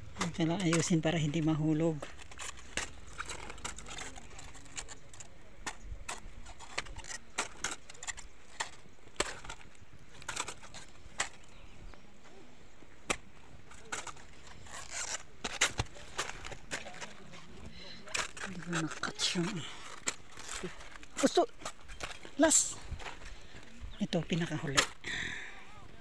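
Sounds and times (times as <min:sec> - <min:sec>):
cabbage leaves snapping and rustling: 0:00.0 - 0:12.0, 0:13.0 - 0:25.4.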